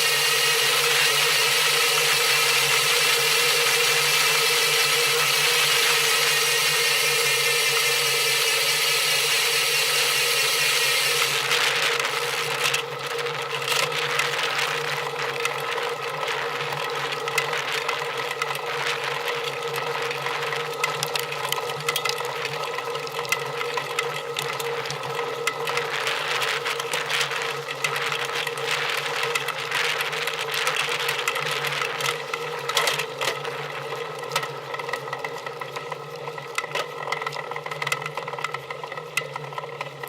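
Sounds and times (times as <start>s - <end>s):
machine humming with ticking: 0.0s - 40.0s.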